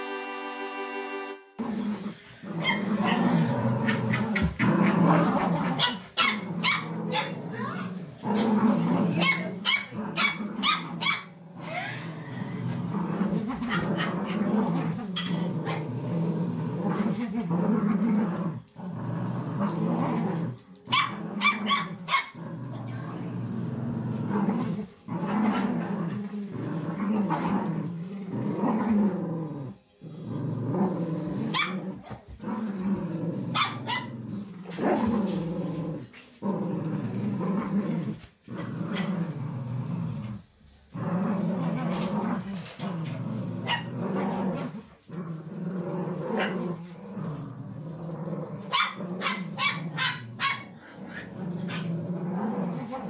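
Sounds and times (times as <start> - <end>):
dogs play-growling: 1.6 - 53.0.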